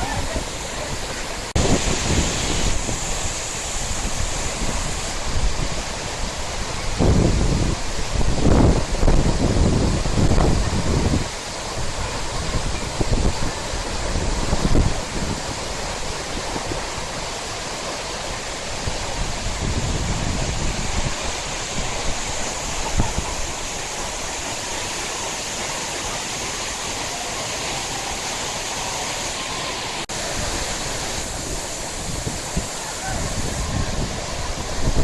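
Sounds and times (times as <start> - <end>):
wind bumps on microphone: 0.0 - 17.3, 18.7 - 24.9, 30.1 - 35.0
waterfall rushing: 0.0 - 35.0.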